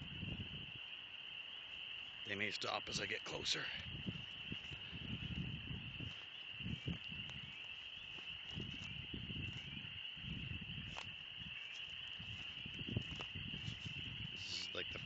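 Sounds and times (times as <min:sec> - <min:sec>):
frogs peeping chorus: 0:00.0 - 0:15.0.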